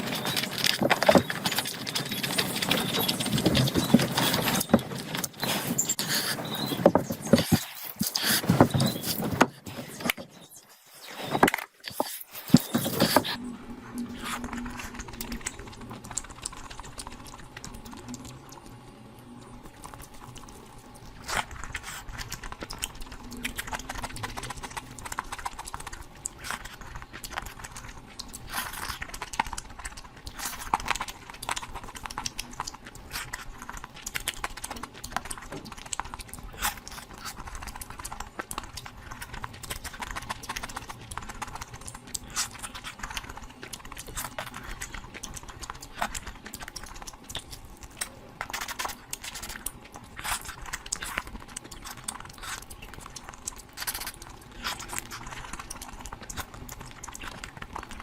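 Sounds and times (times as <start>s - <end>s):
wet chewing: 0.0s - 58.0s.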